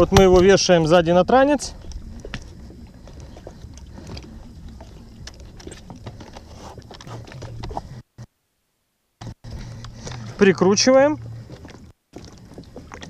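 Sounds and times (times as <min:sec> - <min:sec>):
steady low rumble: 0:00.0 - 0:08.3, 0:09.2 - 0:13.0.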